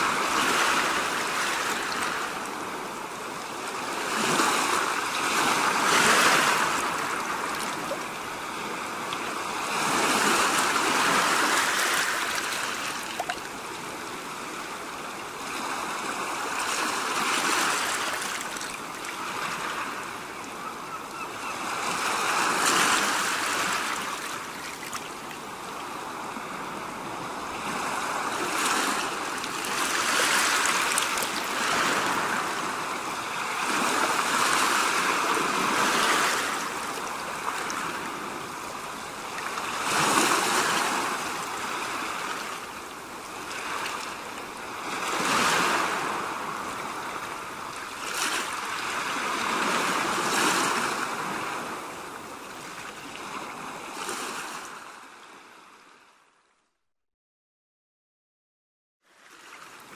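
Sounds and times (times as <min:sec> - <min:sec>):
waves breaking on shore: 0:00.0 - 0:56.1.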